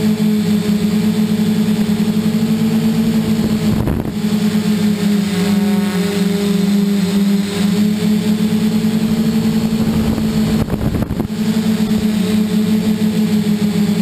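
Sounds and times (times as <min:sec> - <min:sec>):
drone motors humming: 0:00.0 - 0:14.0.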